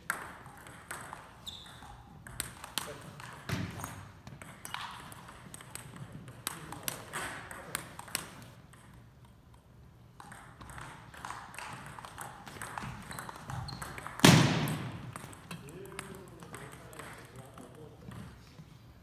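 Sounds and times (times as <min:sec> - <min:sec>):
ball bouncing on table: 0:00.0 - 0:09.0, 0:10.2 - 0:18.4
table tennis ball clicking off paddles: 0:00.0 - 0:18.4.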